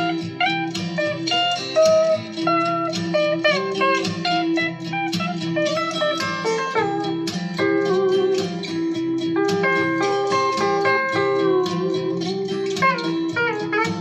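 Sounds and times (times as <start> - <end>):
country guitar music: 0.0 - 14.0.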